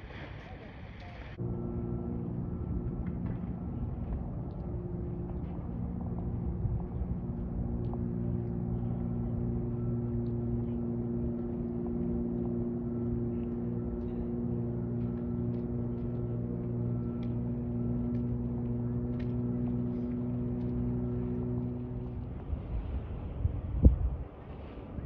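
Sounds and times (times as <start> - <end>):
low hum with overtones: 0.0 - 25.0.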